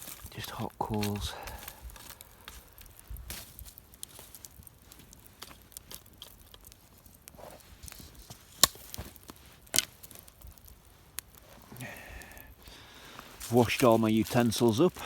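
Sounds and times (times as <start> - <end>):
campfire crackling: 0.0 - 15.0
sharp snaps of fire: 0.0 - 15.0.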